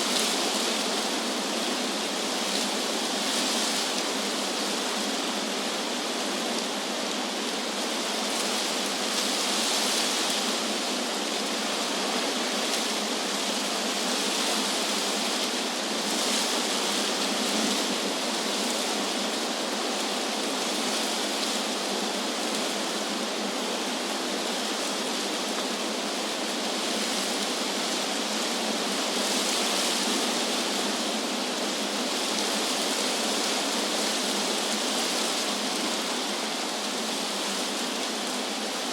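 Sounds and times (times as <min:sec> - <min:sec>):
wind rustling tree leaves: 0:00.0 - 0:38.9.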